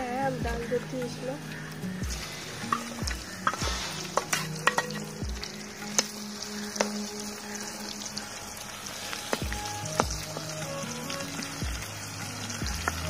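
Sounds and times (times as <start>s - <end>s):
corn kernels sizzling in oil: 0.0s - 13.0s.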